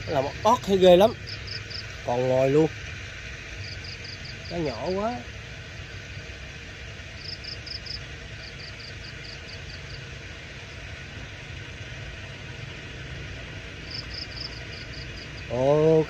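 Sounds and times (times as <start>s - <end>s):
low motor-like rumble: 0.0s - 16.0s.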